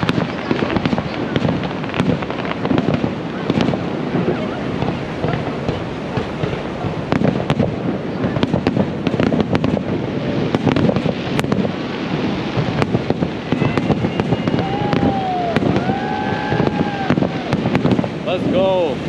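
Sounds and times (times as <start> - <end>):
continuous rumble: 0.0 - 19.0
fireworks cracking and crackling: 0.0 - 19.0.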